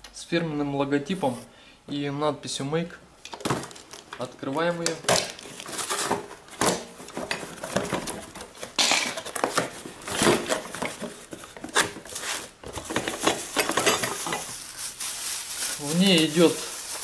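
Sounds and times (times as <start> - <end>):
plastic wrapping rustling: 3.3 - 17.0.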